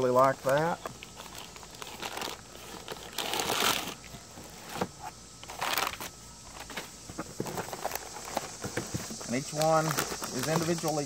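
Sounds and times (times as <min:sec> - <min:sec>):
paper and plastic crinkling: 0:00.0 - 0:11.0.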